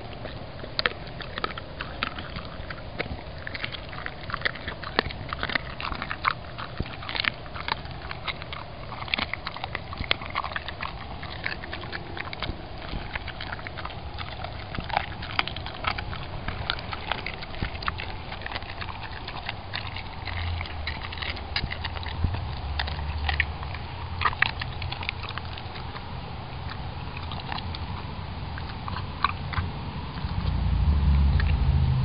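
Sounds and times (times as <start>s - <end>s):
dog chewing crunching bones: 0.0s - 32.0s.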